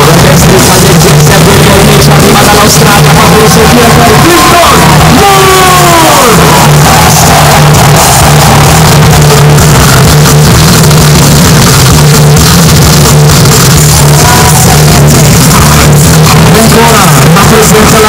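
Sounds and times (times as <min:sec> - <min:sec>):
loud music with throbbing bass: 0:00.0 - 0:18.0.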